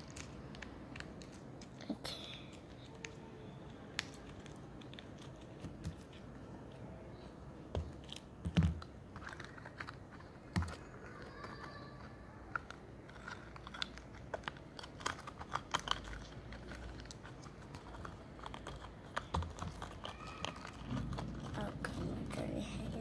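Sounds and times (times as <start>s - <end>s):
plastic toys clicking and tapping: 0.0s - 6.8s, 7.7s - 23.0s.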